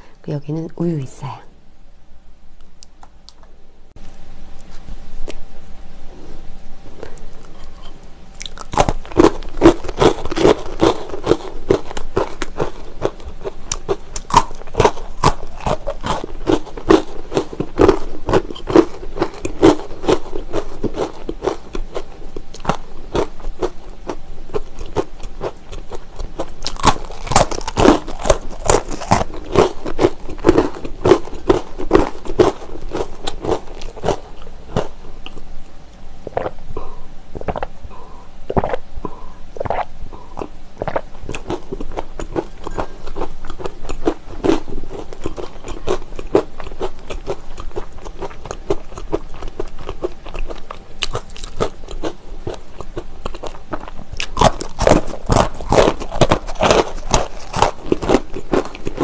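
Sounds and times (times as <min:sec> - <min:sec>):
crunching pretzels: 0:07.0 - 0:35.4, 0:38.5 - 0:59.0.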